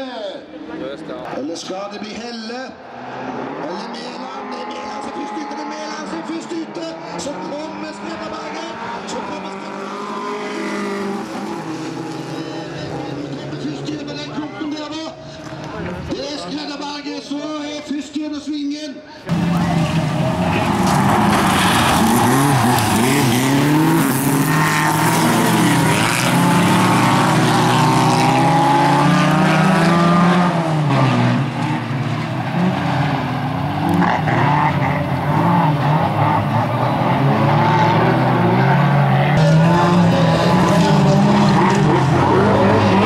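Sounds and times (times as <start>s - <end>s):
race car engines revving: 2.7s - 16.1s, 19.3s - 43.0s.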